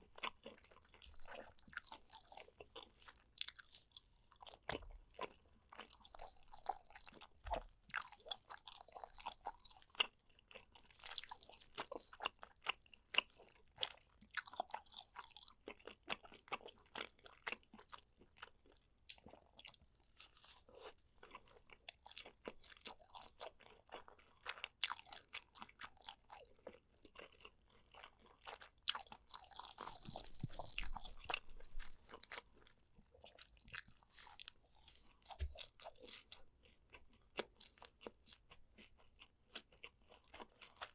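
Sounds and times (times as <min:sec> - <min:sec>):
chewing and biting meat: 0:00.0 - 0:40.9.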